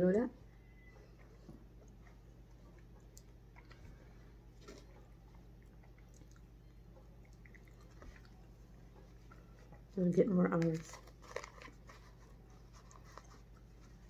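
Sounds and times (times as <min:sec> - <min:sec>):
low steady hum: 0:00.0 - 0:14.0
faint chewing: 0:00.8 - 0:14.0.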